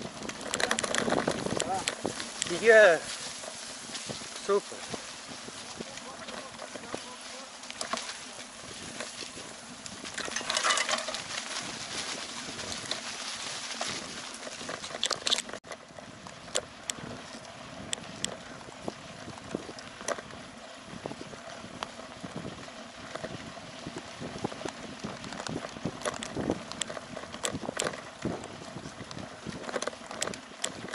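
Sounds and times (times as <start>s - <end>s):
bicycle tyres crunching on sand: 0.0s - 30.9s
bike clicks and rattles: 0.0s - 30.9s.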